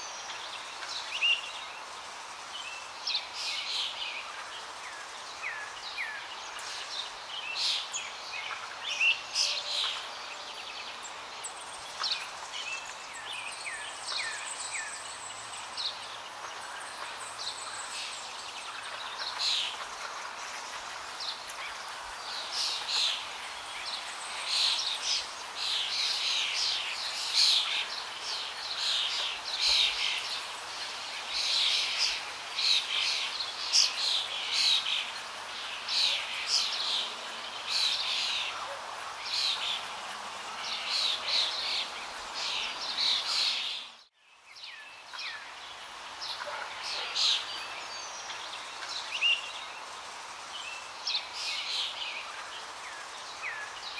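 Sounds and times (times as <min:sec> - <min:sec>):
rushing falling water: 0:00.0 - 0:44.1, 0:45.0 - 0:53.9
small birds chirping: 0:00.0 - 0:53.9.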